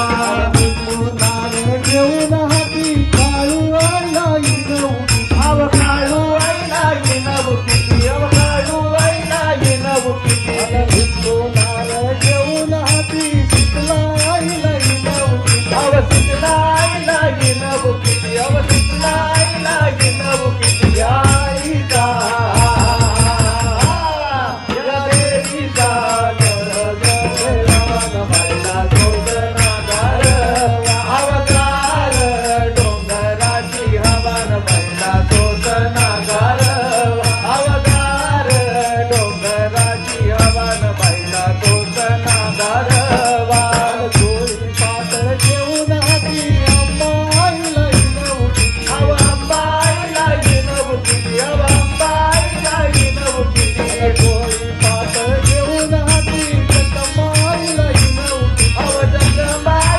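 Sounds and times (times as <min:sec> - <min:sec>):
barrel drum played by hand: 0:00.0 - 0:59.9
harmonium: 0:00.0 - 0:59.9
man singing: 0:00.0 - 0:59.9
steady high jingling beat: 0:00.0 - 0:59.9.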